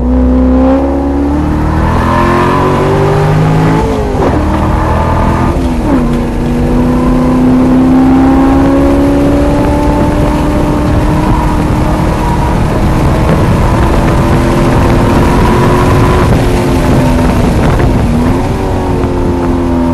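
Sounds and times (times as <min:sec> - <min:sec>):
car engine at full throttle: 0:00.0 - 0:19.9
wind noise: 0:00.0 - 0:19.9.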